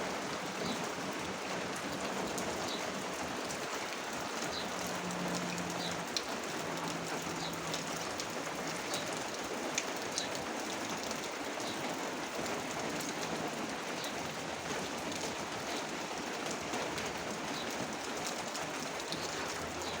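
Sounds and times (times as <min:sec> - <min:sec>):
rain falling: 0:00.0 - 0:20.0
raindrops ticking on surfaces: 0:00.0 - 0:20.0.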